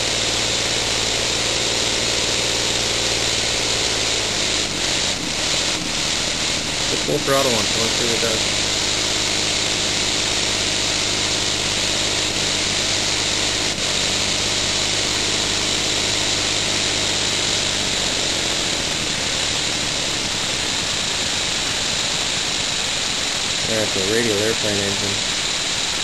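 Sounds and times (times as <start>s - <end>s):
engine mechanical whir: 0.0s - 26.0s
hiss of exhausting air: 0.0s - 26.0s.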